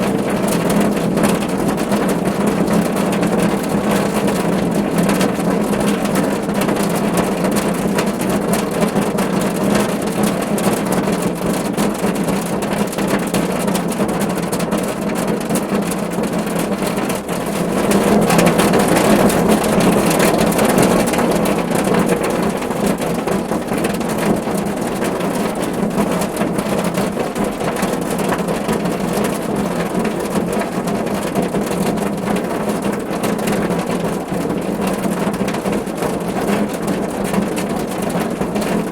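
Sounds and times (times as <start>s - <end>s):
rain on a car roof: 0.0s - 38.9s.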